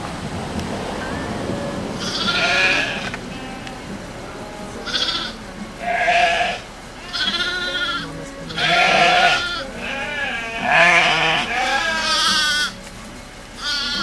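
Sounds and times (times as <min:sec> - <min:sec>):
young goats bleating: 0:00.5 - 0:14.0.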